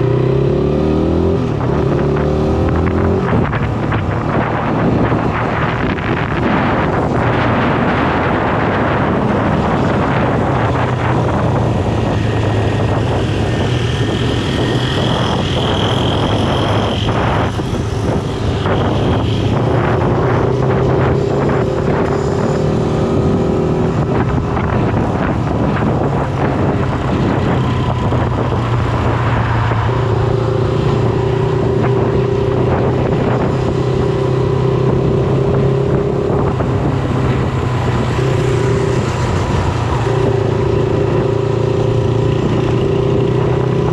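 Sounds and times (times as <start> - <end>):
wind rushing over microphone: 0.0 - 43.9
motorcycle engine running: 1.4 - 43.9.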